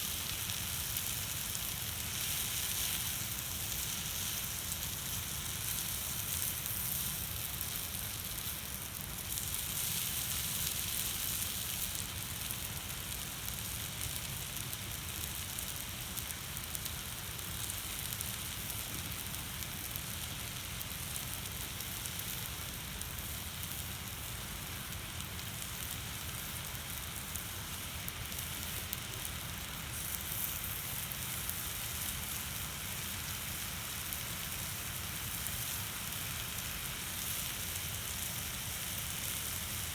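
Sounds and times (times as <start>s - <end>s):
food sizzling with crackles: 0.0s - 39.9s.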